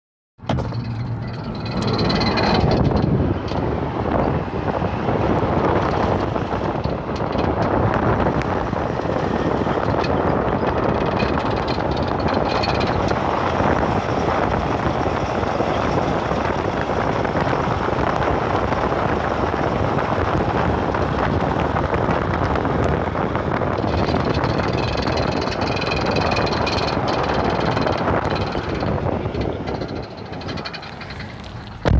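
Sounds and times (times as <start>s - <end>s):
loud mechanical noise: 0.4s - 31.9s.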